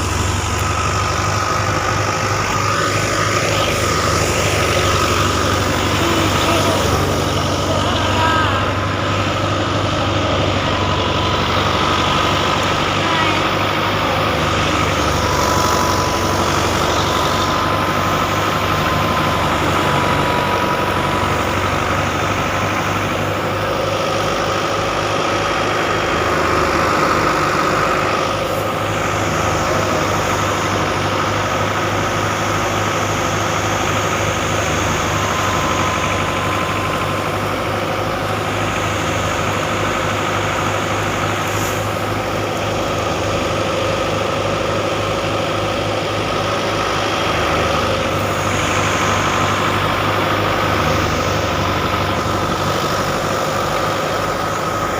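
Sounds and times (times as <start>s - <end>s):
engine running steadily: 0.0s - 54.9s
thin steady whine: 0.0s - 54.9s.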